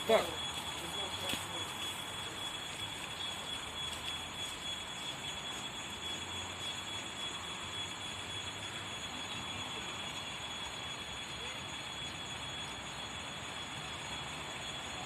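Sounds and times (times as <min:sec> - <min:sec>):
electric train rail noise: 0:00.0 - 0:15.0
thin steady high tone: 0:00.0 - 0:15.0.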